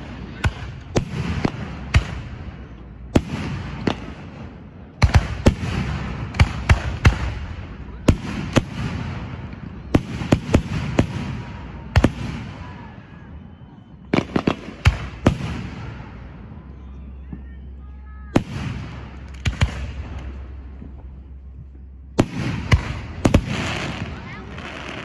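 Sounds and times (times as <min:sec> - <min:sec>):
low rumbling echo: 0:00.0 - 0:25.0.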